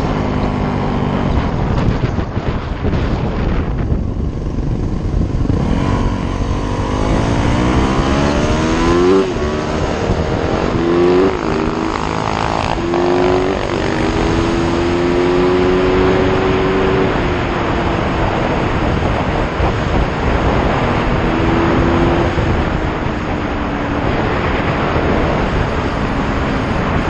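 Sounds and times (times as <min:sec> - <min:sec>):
dirt bike engine accelerating: 0:00.0 - 0:27.0.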